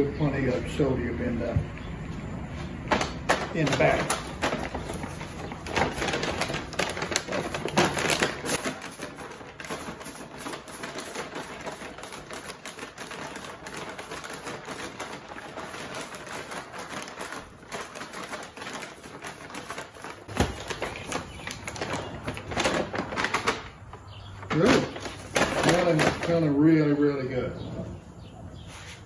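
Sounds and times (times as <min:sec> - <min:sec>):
paper bag crinkling: 0:03.0 - 0:27.0.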